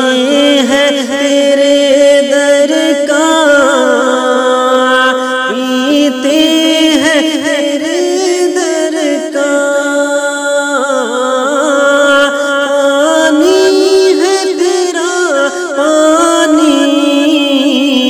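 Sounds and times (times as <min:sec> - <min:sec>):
person singing devotional hymn: 0:00.0 - 0:18.0.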